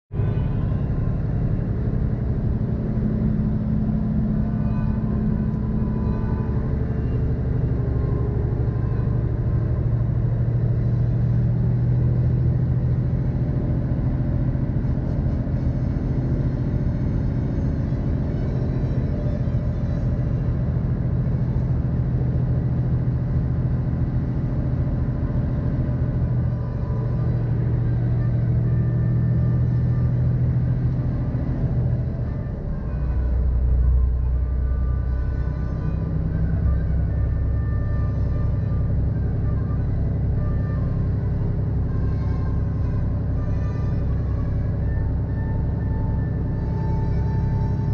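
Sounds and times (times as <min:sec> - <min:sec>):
diesel truck engine and road drone: 0:00.1 - 0:47.9.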